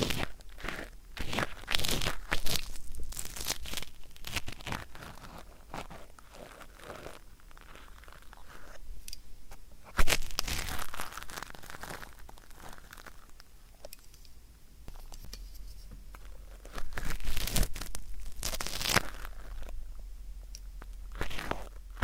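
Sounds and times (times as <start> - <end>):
ear pick scratching earwax: 0.0 - 8.8, 9.8 - 13.5, 14.9 - 19.8, 20.8 - 22.0.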